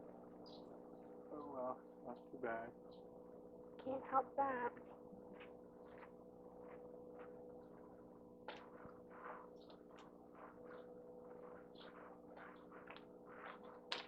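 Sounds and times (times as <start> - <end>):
faint scattered small sounds: 0.0 - 14.0
faint steady hum: 0.0 - 14.0.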